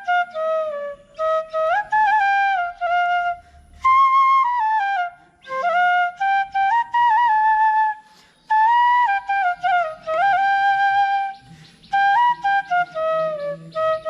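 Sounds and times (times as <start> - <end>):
bamboo flute melody: 0.0 - 14.0.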